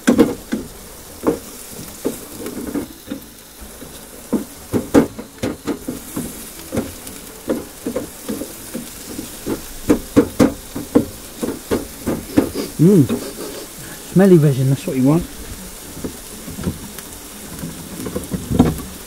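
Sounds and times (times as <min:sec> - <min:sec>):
onions sizzling in a frying pan: 0:00.0 - 0:19.0
wooden spatula scraping a pan: 0:00.0 - 0:19.0.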